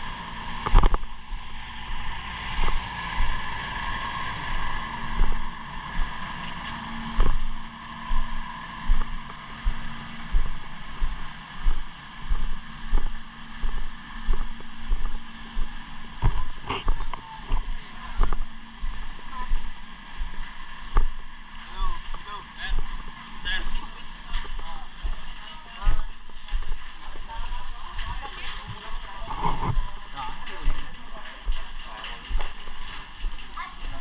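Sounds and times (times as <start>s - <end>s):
footsteps walking: 4.6s - 21.3s, 21.9s - 34.0s.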